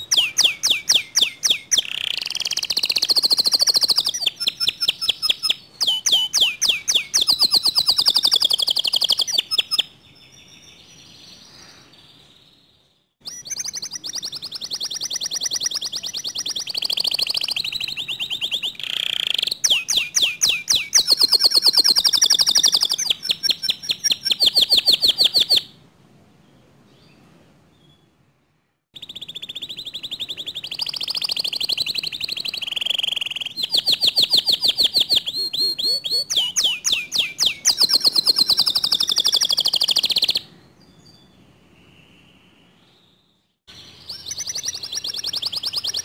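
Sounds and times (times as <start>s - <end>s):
canary singing trills: 0.0s - 25.8s, 29.0s - 46.0s.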